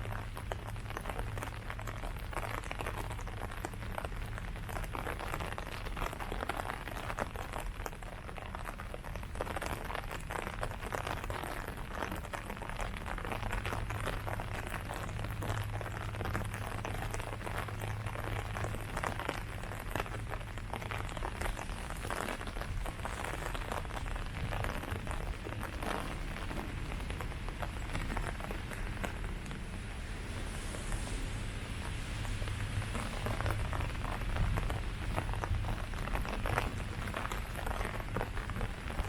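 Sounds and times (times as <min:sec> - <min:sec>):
rain on foliage: 0:00.0 - 0:39.0.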